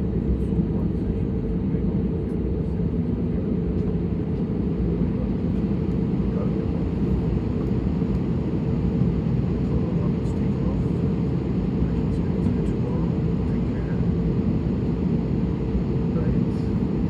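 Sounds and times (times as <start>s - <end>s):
aircraft cabin rumble: 0.0s - 17.0s.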